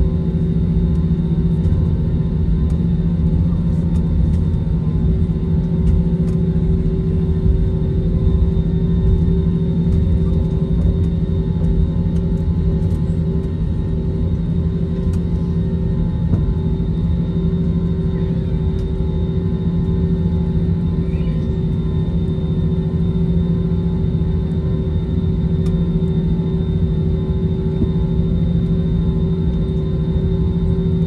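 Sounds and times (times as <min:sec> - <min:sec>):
jet engines humming: 0:00.0 - 0:31.0.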